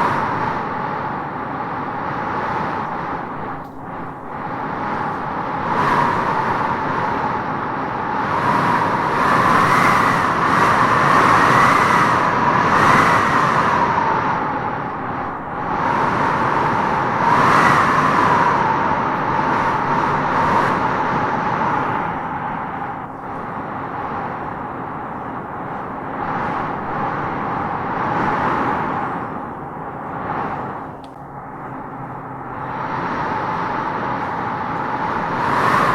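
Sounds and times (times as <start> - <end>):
wind howling through trees: 0.0 - 35.9.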